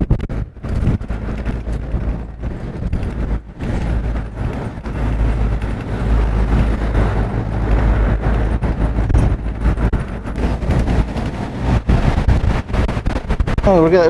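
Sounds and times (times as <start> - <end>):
bus engine rumble: 0.0 - 14.0
road noise: 0.0 - 14.0.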